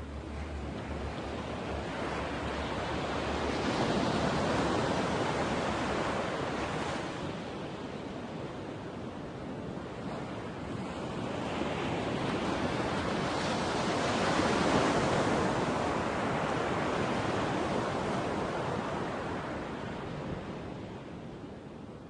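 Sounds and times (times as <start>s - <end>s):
ocean surf on beach: 0.0s - 22.0s.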